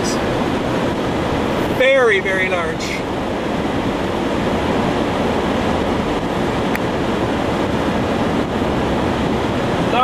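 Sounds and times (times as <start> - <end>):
road and wind noise in cab: 0.0 - 10.0.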